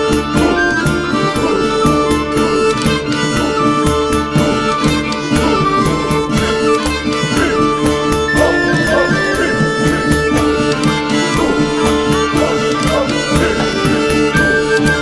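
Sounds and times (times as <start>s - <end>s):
steady regular beat: 0.0s - 14.8s
held instrumental notes: 0.0s - 15.0s.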